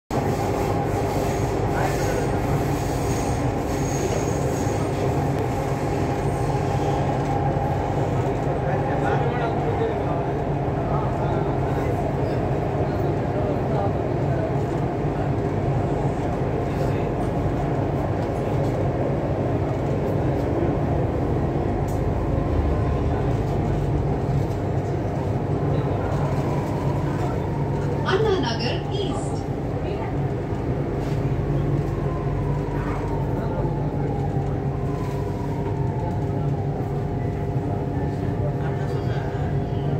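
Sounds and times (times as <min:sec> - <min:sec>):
electric train rumbling: 0:00.1 - 0:39.9.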